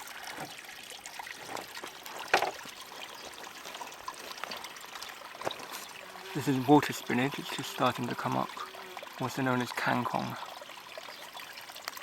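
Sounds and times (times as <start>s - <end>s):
water trickling into a pond: 0.0s - 12.0s.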